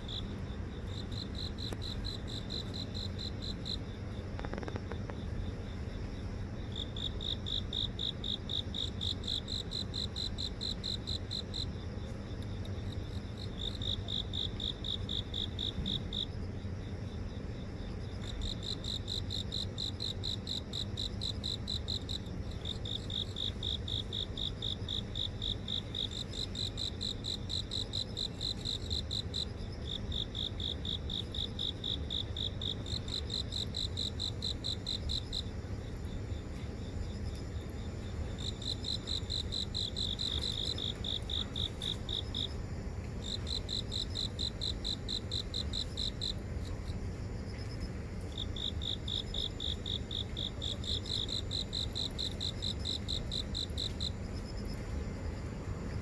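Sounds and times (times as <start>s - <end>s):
cricket trilling: 0.0s - 56.0s
low steady rumble: 0.0s - 56.0s.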